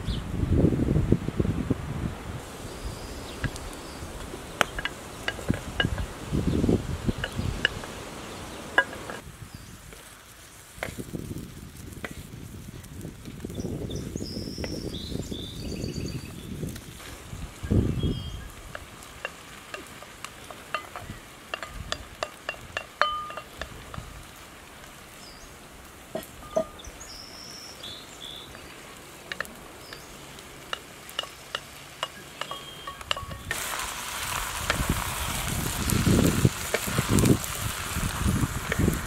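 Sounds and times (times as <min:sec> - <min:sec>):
vegetables frying sizzle: 0:02.4 - 0:39.0.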